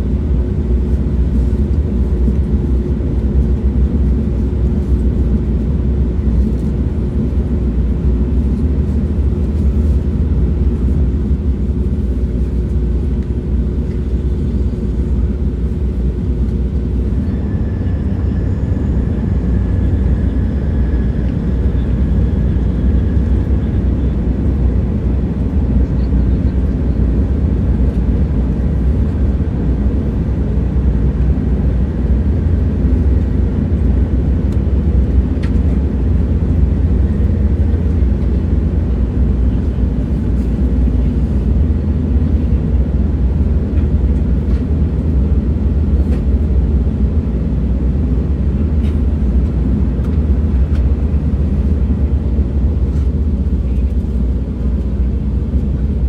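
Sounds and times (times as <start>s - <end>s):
train rumble: 0.0s - 56.0s.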